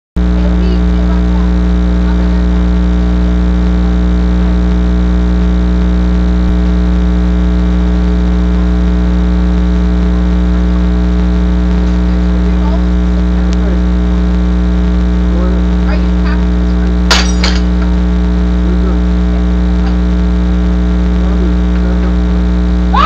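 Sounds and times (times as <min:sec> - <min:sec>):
electrical mains hum: 0:00.2 - 0:23.0.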